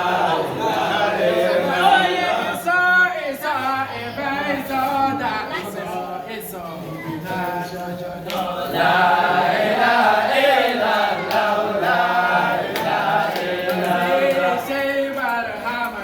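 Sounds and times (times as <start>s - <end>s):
chorus of voices chanting: 0.0s - 16.0s.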